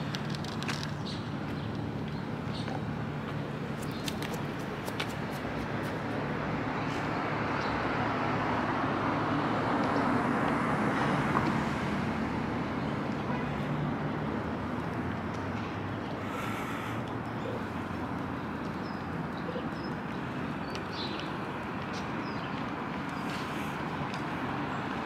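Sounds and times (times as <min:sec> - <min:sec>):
road noise hum: 0:00.0 - 0:25.0.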